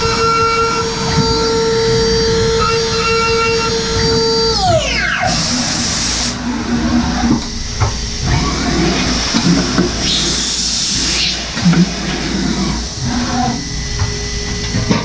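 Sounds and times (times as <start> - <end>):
machine whirring and knocking: 0.0 - 15.0.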